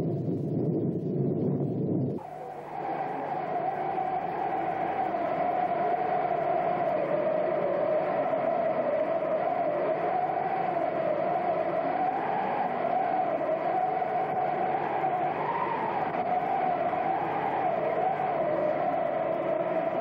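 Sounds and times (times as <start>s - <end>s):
droning noise wavering in pitch: 0.0s - 20.0s.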